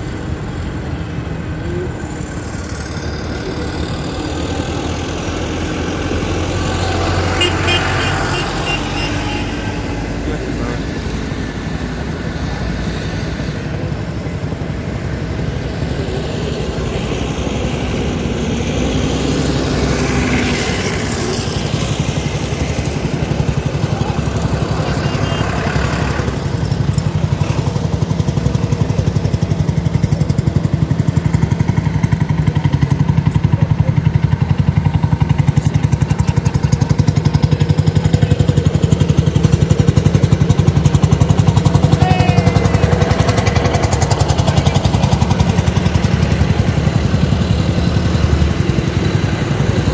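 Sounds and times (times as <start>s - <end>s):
diesel tractor engines running: 0.0s - 49.9s.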